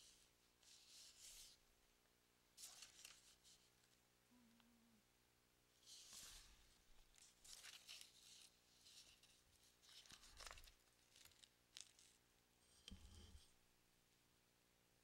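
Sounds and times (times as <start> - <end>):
faint rustling and handling noises: 0.0 - 4.9, 5.7 - 13.8.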